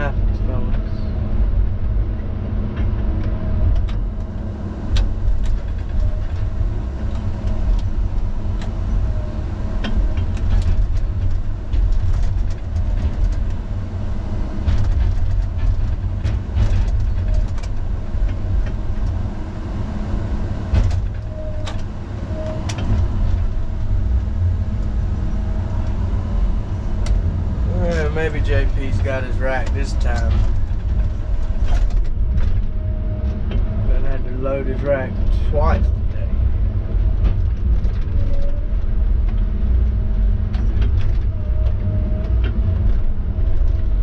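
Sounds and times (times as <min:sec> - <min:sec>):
diesel engine rumbling: 0:00.0 - 0:44.0.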